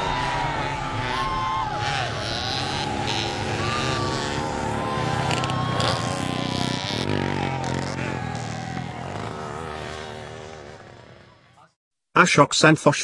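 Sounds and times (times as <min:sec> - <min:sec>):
dirt bike engines revving: 0:00.0 - 0:11.8.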